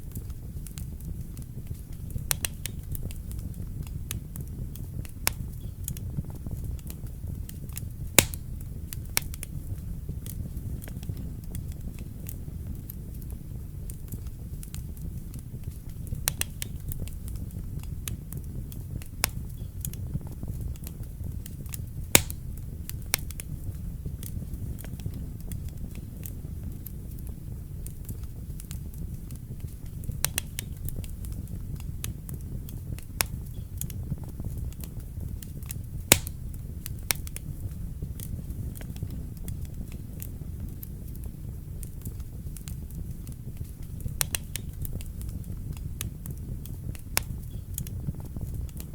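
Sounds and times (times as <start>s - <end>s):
flames low rumble: 0.0s - 48.9s
wood fire pops and snaps: 0.0s - 48.9s.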